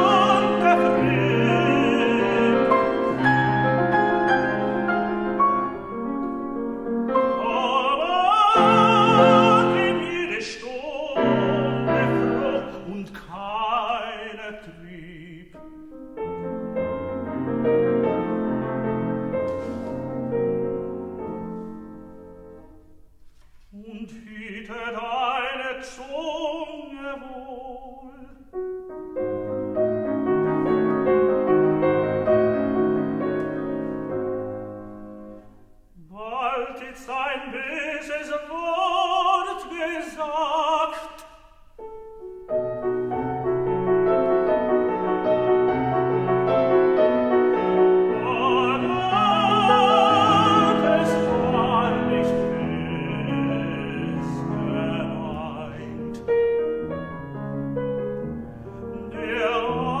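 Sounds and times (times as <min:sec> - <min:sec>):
tenor singing: 0:00.0 - 0:22.8, 0:23.6 - 0:28.7, 0:36.0 - 0:57.4, 0:58.1 - 1:00.0
piano accompaniment: 0:00.0 - 0:23.2, 0:24.1 - 1:00.0.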